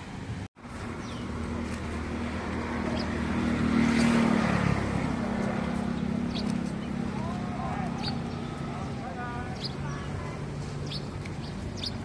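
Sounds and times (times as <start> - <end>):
passing motor vehicle engine hum: 0.0 - 12.0.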